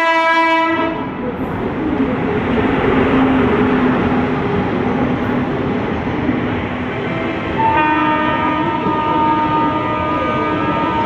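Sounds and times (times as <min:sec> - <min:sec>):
train wheel and rail rush: 0:00.0 - 0:11.0.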